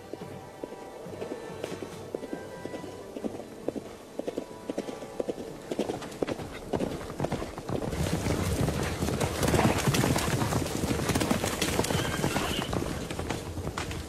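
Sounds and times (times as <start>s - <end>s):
horse hoofbeats galloping on dirt: 0.0s - 14.0s.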